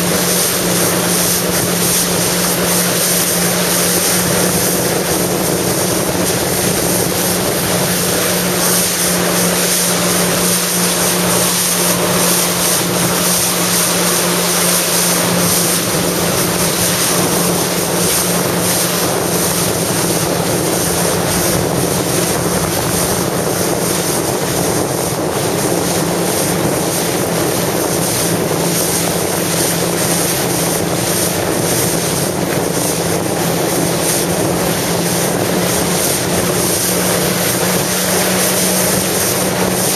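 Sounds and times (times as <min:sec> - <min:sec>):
jet ski engine running: 0:00.0 - 0:39.9
water rushing: 0:00.0 - 0:39.9
wind buffeting microphone: 0:00.0 - 0:39.9.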